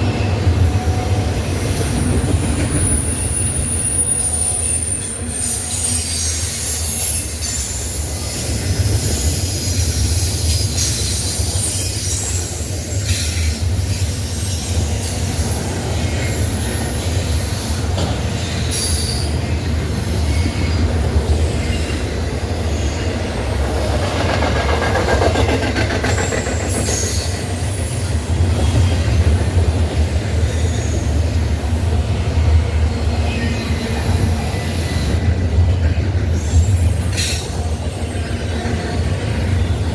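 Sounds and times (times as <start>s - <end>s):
freight train rumbling: 0.0s - 39.9s
train wheels squealing: 0.0s - 39.9s.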